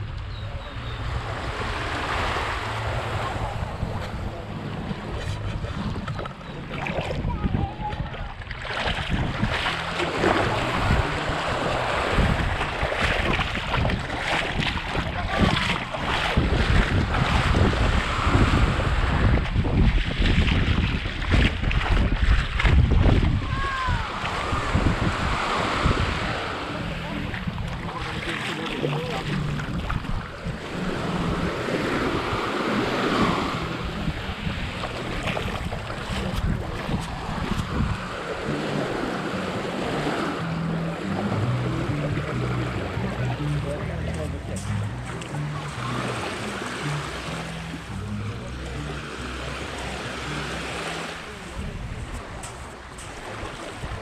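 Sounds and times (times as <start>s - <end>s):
wind buffeting microphone: 0.0s - 45.9s, 51.2s - 54.0s
small waves washing on shore: 0.0s - 54.0s.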